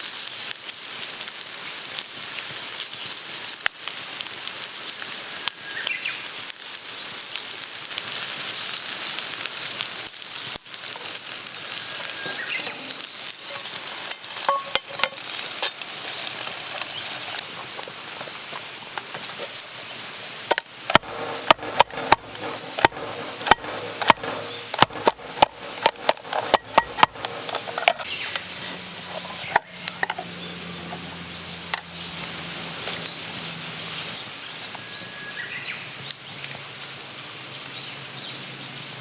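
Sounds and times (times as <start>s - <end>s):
campfire crackling: 0.0s - 39.0s
food sizzling in a frying pan: 0.0s - 39.0s.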